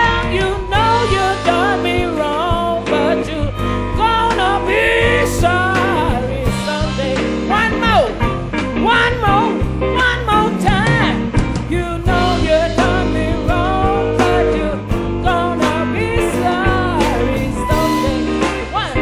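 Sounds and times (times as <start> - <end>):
band with bass and drums: 0.0 - 19.0
electric blues guitar solo: 0.0 - 19.0.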